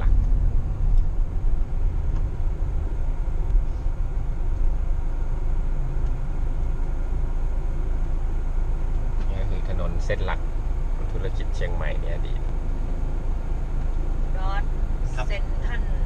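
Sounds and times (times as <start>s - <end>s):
car engine rumble: 0.0s - 16.0s
road noise inside car: 0.0s - 16.0s.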